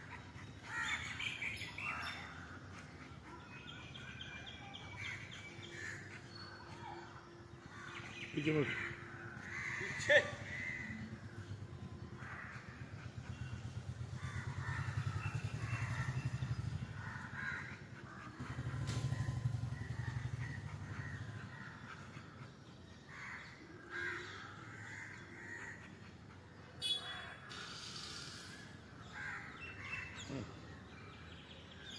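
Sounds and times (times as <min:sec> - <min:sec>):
birds calling: 0:00.0 - 0:31.9.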